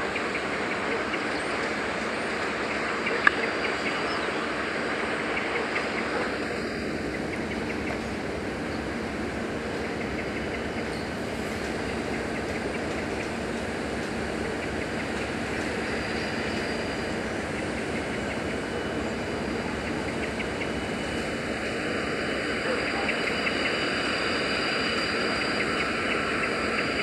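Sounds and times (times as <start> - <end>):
diesel locomotive engine running: 0.0 - 27.0.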